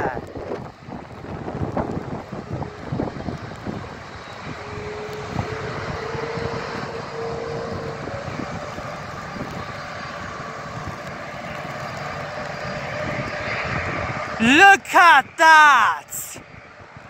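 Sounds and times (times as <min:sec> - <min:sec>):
wind buffeting microphone: 0:00.0 - 0:14.4
jet engines rushing and whining: 0:00.1 - 0:15.4, 0:16.0 - 0:17.0.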